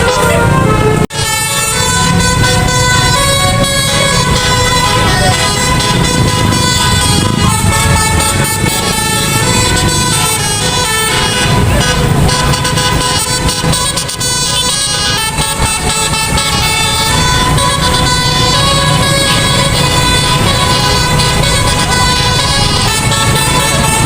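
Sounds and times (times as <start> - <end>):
bus engine rumble: 0.0 - 24.0
musical bus air horn: 0.0 - 24.0.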